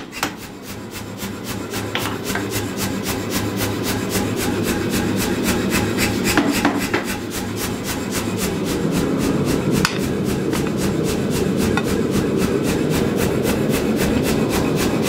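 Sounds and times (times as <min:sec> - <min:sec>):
constant machine hum: 0:00.0 - 0:15.0
power hammer compressor chuffing: 0:00.0 - 0:15.0.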